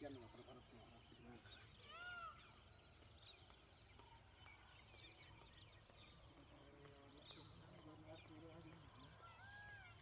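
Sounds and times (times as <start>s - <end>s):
faint bird chirps: 0.0s - 10.0s
insects chirping: 0.0s - 10.0s.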